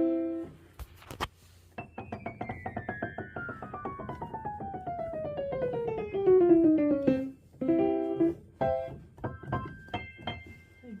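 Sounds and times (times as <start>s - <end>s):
piano playing: 0.0s - 0.5s, 1.8s - 11.0s.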